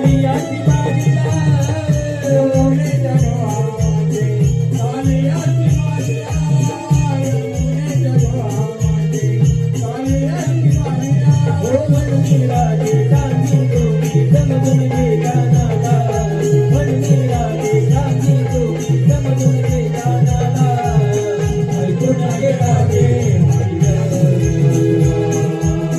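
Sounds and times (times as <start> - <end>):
drum beating quick rhythm: 0.0 - 25.9.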